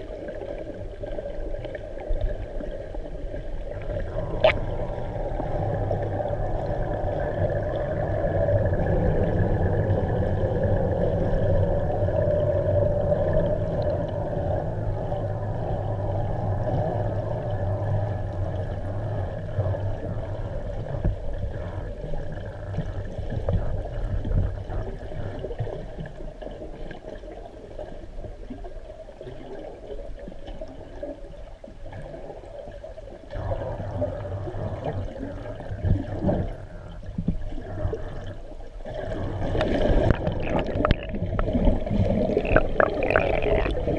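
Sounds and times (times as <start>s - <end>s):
underwater rushing and gurgling: 0.0s - 43.9s.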